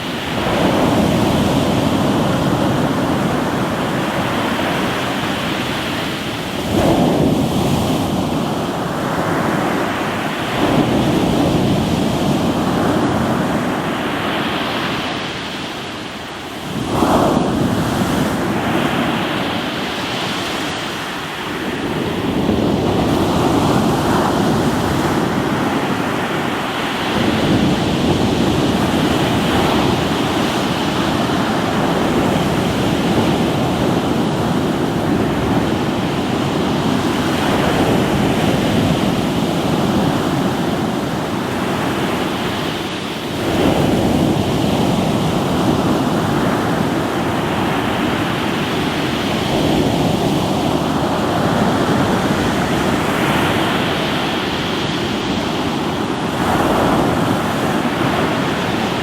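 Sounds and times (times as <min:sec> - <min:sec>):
surf breaking on rocky shore: 0:00.0 - 0:59.0
wind buffeting microphone: 0:00.0 - 0:59.0.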